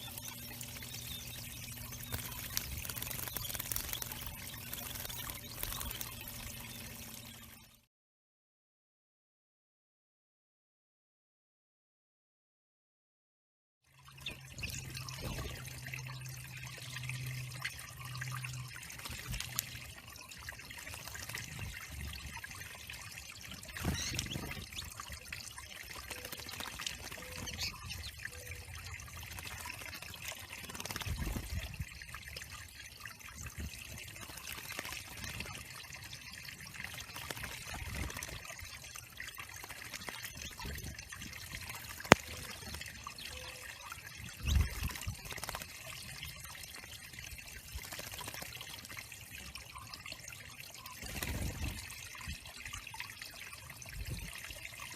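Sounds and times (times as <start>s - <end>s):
water trickling into pond: 0.0s - 7.9s, 13.8s - 54.9s.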